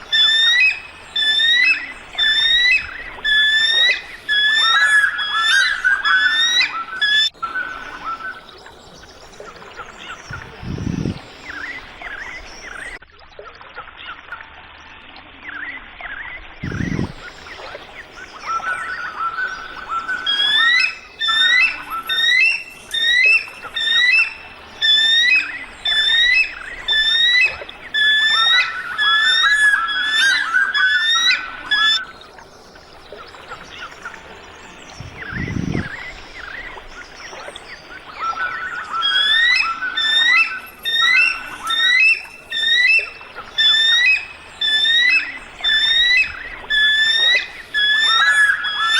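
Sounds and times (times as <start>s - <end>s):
birds chirping: 0.0s - 13.0s, 16.6s - 48.9s
rapid whistled bird notes: 0.0s - 13.0s, 16.6s - 32.1s, 34.5s - 48.9s.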